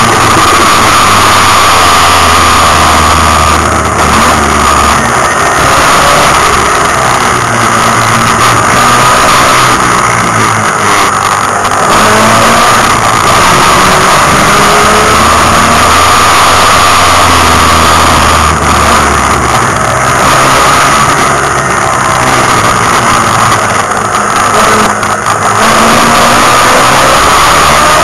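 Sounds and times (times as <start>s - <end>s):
race car engine running hard: 0.0s - 28.0s.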